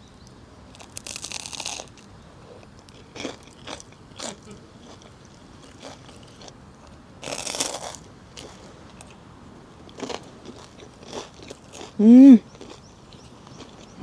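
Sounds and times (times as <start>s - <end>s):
biting and chewing crisp food: 0.7s - 9.2s, 9.8s - 14.0s.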